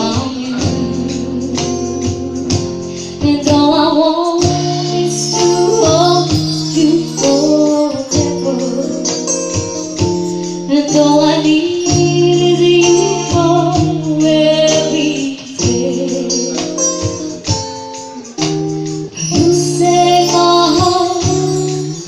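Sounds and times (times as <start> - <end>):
woman singing into microphone: 0.0 - 17.8, 18.4 - 22.0
bongos: 0.0 - 22.0
guitar chords: 0.0 - 22.0.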